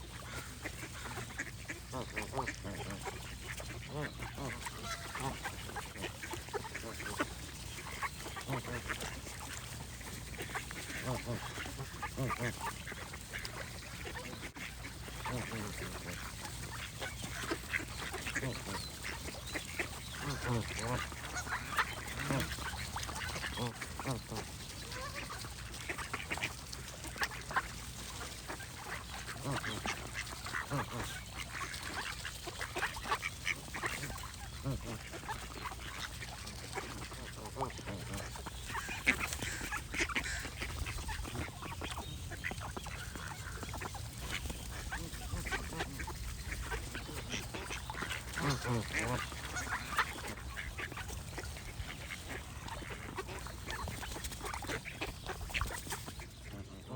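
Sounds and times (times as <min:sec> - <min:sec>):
flock of waterfowl calling: 0:00.0 - 0:56.9.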